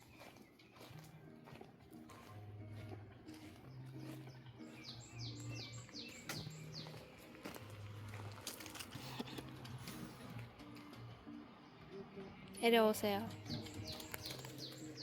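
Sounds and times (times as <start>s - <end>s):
soft background music: 0.0s - 15.0s
songbird singing: 0.0s - 15.0s.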